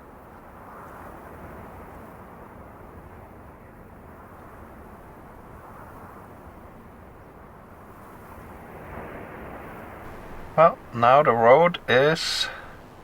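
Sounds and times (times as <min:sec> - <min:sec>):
wind blowing with low rumble: 0:00.1 - 0:13.0.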